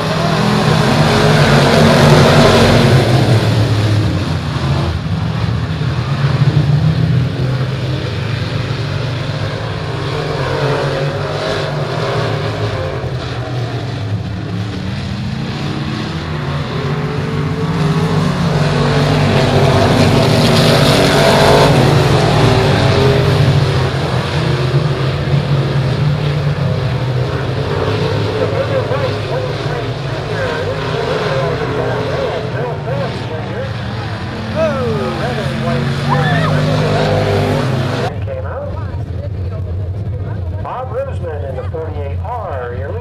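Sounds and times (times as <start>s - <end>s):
stock car engines racing: 0.0s - 43.0s.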